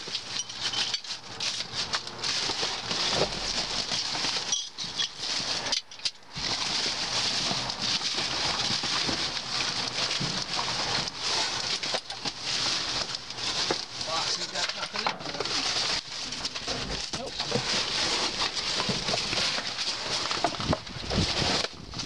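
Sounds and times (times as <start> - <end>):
hands rummaging through debris: 0.0 - 22.0.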